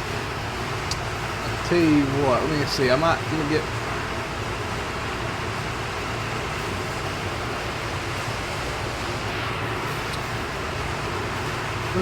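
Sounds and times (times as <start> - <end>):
fan rushing noise: 0.0 - 12.0.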